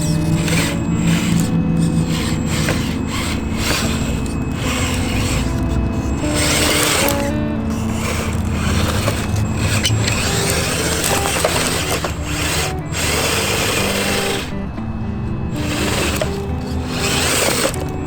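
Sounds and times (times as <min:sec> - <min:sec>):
background music: 0:00.0 - 0:18.0
electric motor whirring: 0:00.0 - 0:18.0.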